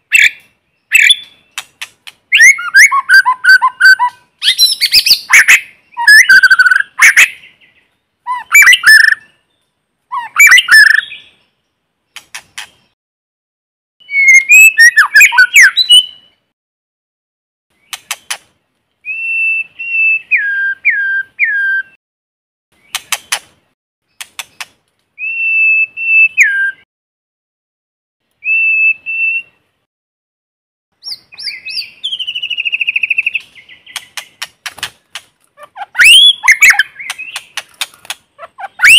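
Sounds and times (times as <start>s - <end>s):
songbird singing: 0.0s - 13.0s, 14.0s - 16.5s, 17.7s - 22.0s, 22.7s - 26.9s, 28.3s - 29.9s, 31.0s - 38.9s.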